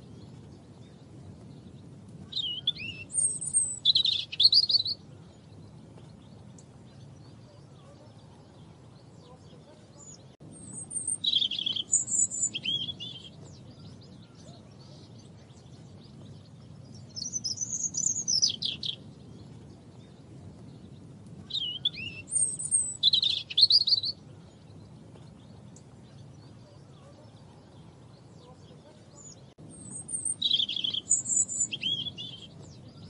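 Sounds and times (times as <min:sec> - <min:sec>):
robin singing: 0:00.0 - 0:33.0.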